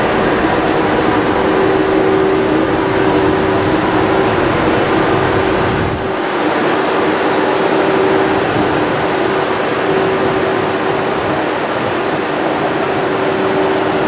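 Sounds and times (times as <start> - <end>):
constant hum: 0.0 - 14.0
train cooling fans whirring: 0.0 - 14.0.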